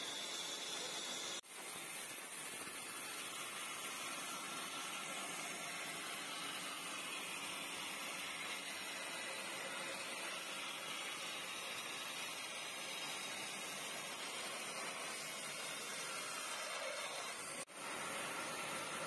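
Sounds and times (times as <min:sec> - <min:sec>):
bandsaw cutting log: 0:00.0 - 0:19.0.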